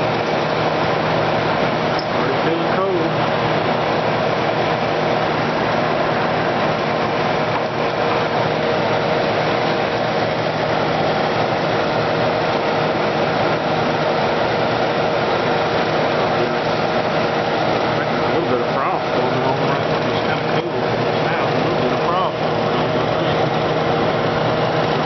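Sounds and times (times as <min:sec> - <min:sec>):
dehumidifier compressor hum: 0:00.0 - 0:25.0.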